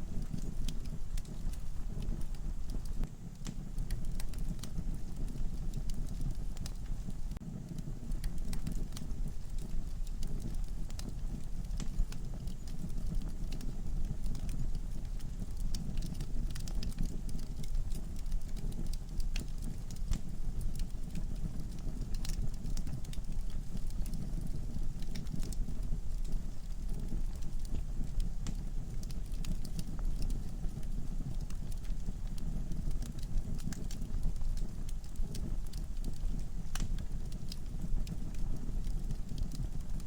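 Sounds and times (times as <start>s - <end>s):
fire flames rumbling: 0.0s - 40.0s
logs crackling and popping: 0.0s - 40.0s.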